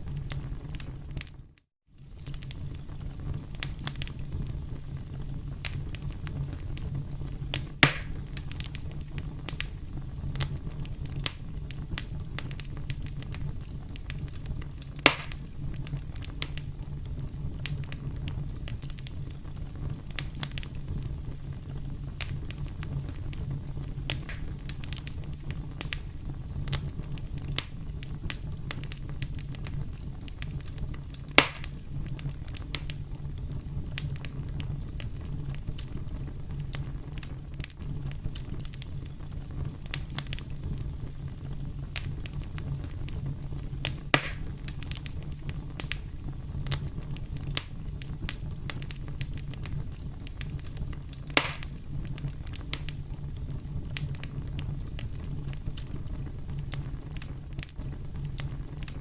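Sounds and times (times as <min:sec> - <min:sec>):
campfire crackling: 0:00.0 - 0:59.0
louder fire snaps: 0:00.0 - 0:59.0.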